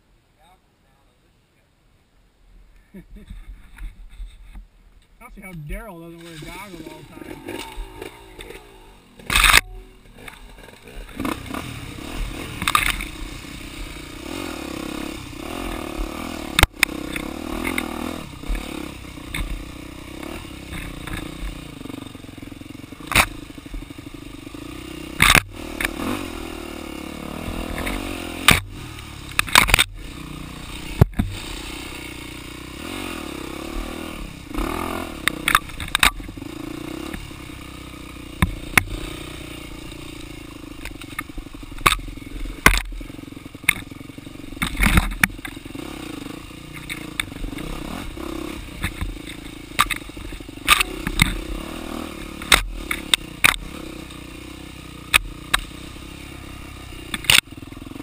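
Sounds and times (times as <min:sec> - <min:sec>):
dirt bike engine: 0:02.8 - 0:58.0.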